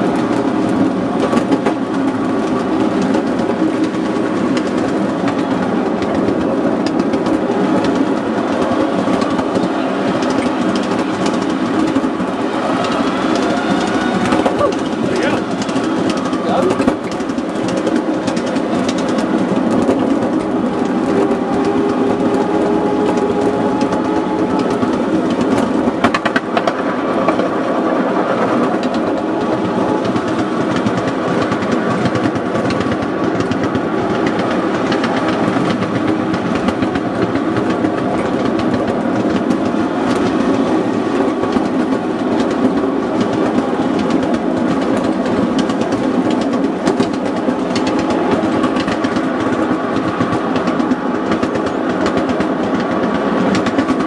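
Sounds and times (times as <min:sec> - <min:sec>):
clicking over rail joints: 0:00.0 - 0:54.0
wheels rumbling on rails: 0:00.0 - 0:54.0.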